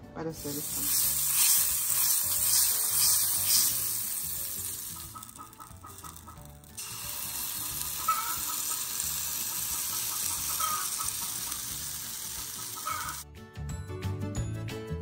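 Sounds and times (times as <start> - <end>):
butter sizzling in a skillet: 0.4 - 13.2.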